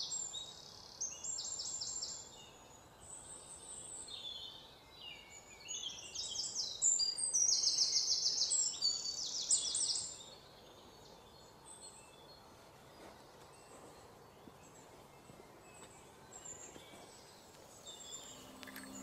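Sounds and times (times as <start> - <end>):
birds chirping and trilling: 0.0 - 19.0
faint steady hiss: 0.0 - 19.0.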